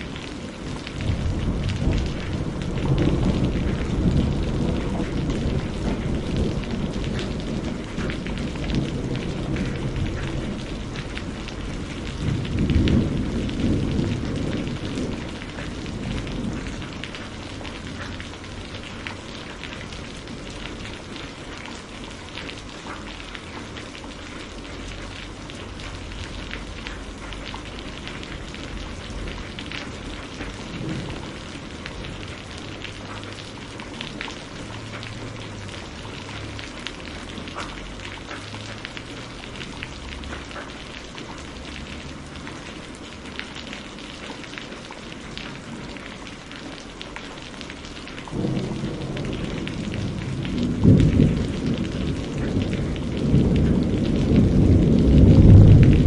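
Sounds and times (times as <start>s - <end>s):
low rumble of thunder: 0.0s - 43.3s, 44.8s - 56.0s
steady rain: 0.0s - 56.0s.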